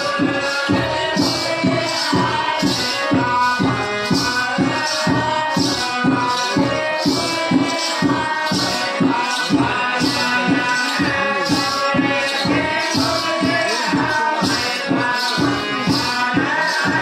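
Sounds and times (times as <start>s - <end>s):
regular drumming: 0.0s - 17.0s.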